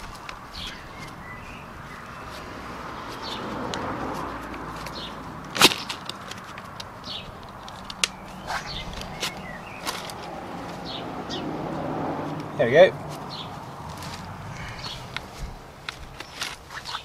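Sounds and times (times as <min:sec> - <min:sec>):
rushing background noise: 0:00.0 - 0:17.0.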